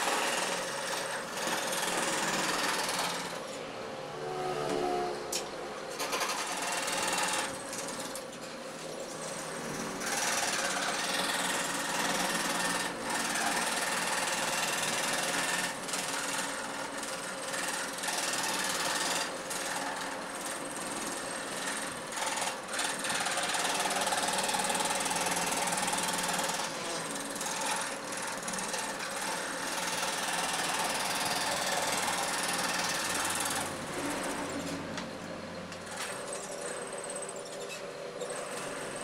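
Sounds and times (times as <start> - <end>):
jigsaw cutting wood: 0.0 - 3.5, 6.0 - 8.2, 9.2 - 34.9.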